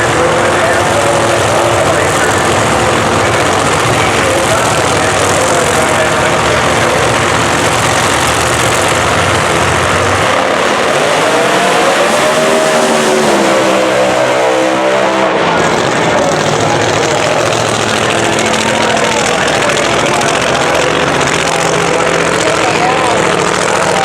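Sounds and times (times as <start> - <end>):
engine pitch sliding up and down: 0.0 - 24.0
racing engines din: 0.0 - 24.0.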